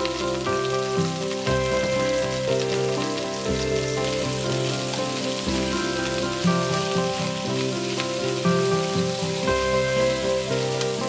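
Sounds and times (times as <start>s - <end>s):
background music: 0.0s - 11.0s
vegetables sizzling in a frying pan: 0.0s - 11.0s.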